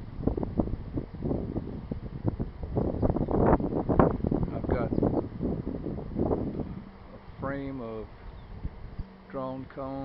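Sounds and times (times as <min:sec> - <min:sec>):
bee swarm humming: 0:00.0 - 0:10.0
wind buffeting microphone: 0:00.0 - 0:10.0.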